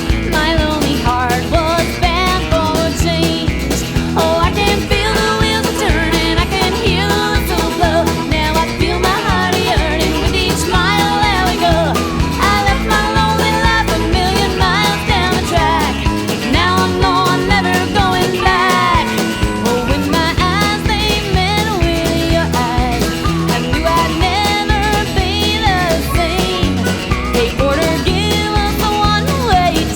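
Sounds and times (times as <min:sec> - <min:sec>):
country rock band music: 0:00.0 - 0:29.9
steady drum beat: 0:00.0 - 0:29.9.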